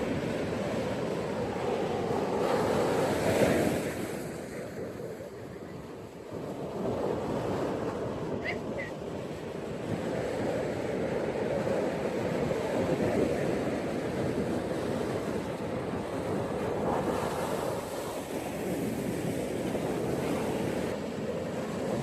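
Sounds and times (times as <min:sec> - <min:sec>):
ocean waves washing onto beach: 0:00.0 - 0:22.0.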